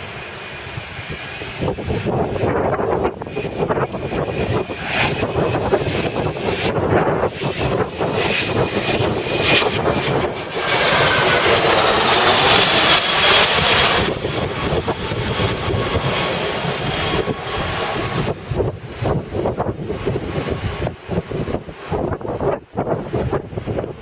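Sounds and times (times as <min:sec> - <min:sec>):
jet engines landing: 0:00.0 - 0:24.0
wind buffeting microphone: 0:00.0 - 0:24.0.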